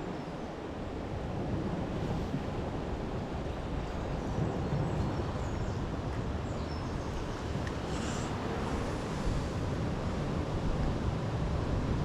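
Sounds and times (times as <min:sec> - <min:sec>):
sea surf: 0:00.0 - 0:12.0
wind buffeting microphone: 0:01.0 - 0:12.0.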